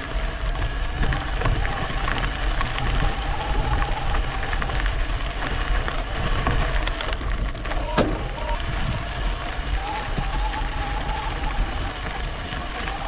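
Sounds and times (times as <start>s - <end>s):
tyres crackling over trail: 0.0s - 13.0s
wind rumbling on microphone: 0.0s - 13.0s.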